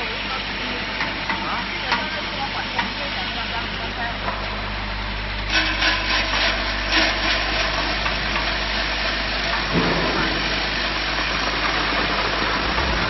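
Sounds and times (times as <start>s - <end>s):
machinery electric hum: 0.0s - 13.0s.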